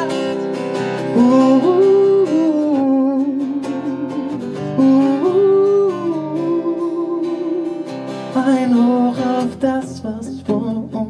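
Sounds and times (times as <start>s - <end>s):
man singing wordless notes: 0.0s - 11.0s
strummed acoustic guitar: 0.0s - 11.0s.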